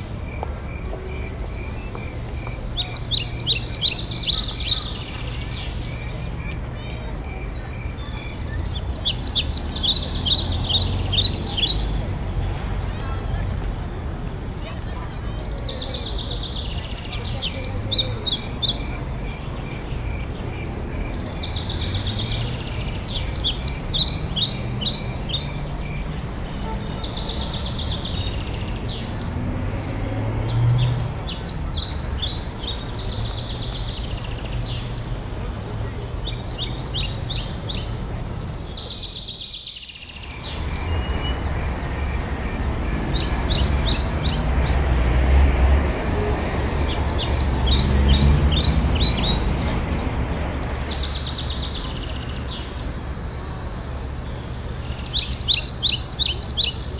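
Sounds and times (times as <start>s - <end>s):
songbirds calling: 0.0s - 56.9s.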